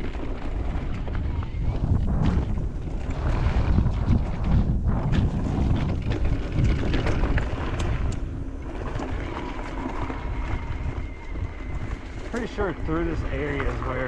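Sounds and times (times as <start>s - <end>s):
low rumble of bike on trail: 0.0s - 14.0s
wind buffeting microphone: 0.0s - 14.0s.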